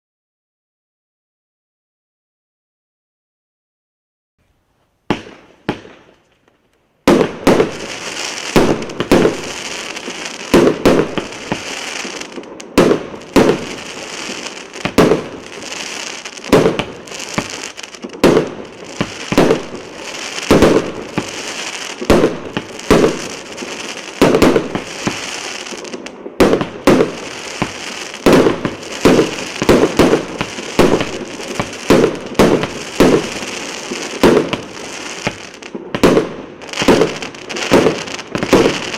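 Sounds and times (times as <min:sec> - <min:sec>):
fireworks crackling: 0:04.4 - 0:38.9
small fireworks pops: 0:05.1 - 0:38.9
fireworks cake bangs: 0:07.1 - 0:38.9.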